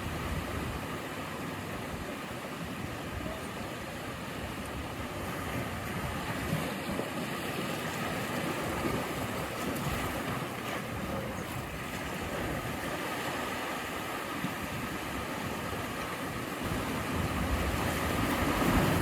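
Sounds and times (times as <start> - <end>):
sea waves washing: 0.0 - 19.0.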